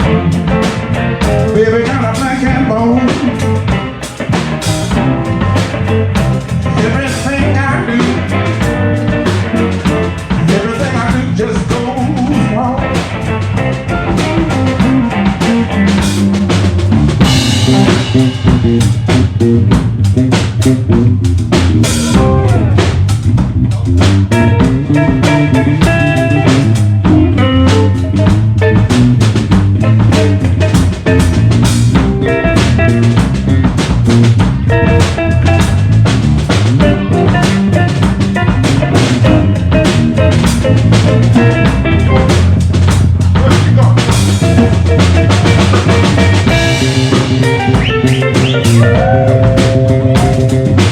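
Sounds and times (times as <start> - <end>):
electric blues band playing: 0.0 - 50.9
loud bass notes: 0.0 - 50.9.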